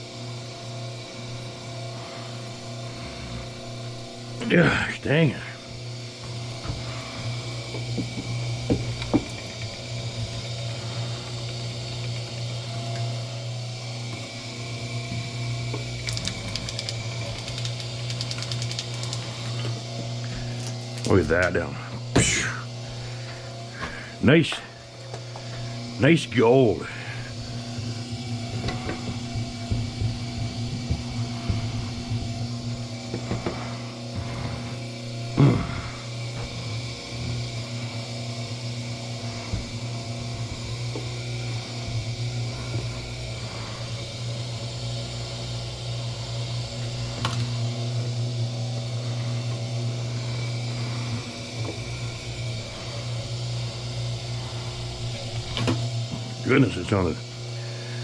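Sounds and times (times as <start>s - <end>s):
wire stripping machine humming: 0.0s - 58.0s.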